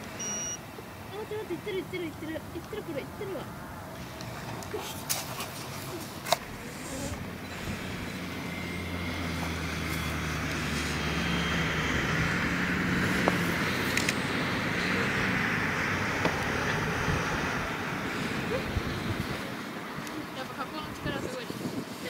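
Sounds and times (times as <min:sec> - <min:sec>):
passing vehicle engine hum: 0:00.0 - 0:22.0.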